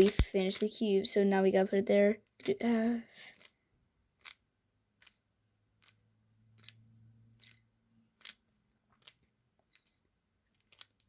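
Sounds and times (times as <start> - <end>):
puzzle cube layers clicking: 0.0 - 0.7, 2.2 - 6.8, 7.4 - 11.0.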